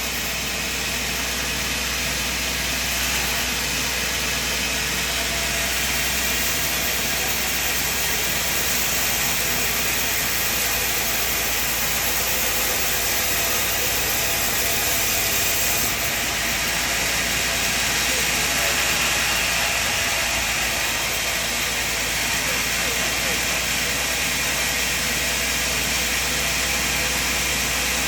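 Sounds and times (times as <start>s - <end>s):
sawmill machine running: 0.0s - 28.0s.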